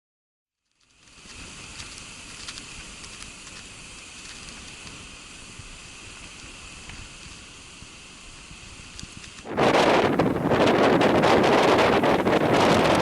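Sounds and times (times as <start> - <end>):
faint outdoor hiss: 0.6 - 12.8.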